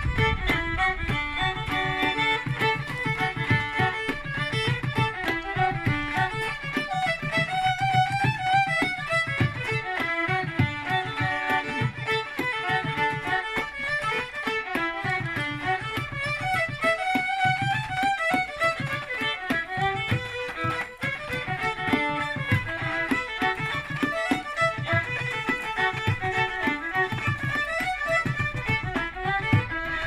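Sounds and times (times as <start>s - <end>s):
fiddles playing dance tune: 0.0s - 30.0s
frame drum beating: 0.0s - 30.0s.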